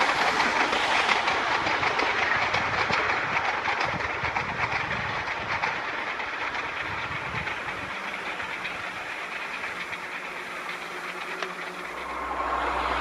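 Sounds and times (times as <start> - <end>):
train wheels on rails: 0.0 - 13.0
wheels clicking over rail joints: 0.0 - 13.0.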